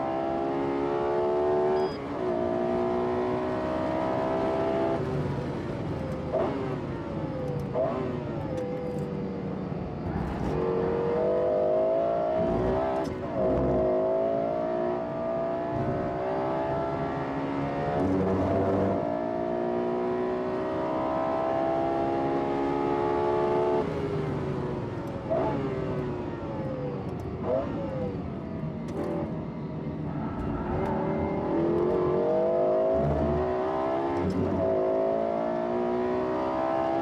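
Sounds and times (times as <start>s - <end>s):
car engine revving through gears: 0.0s - 9.1s, 10.0s - 29.5s, 30.1s - 37.0s.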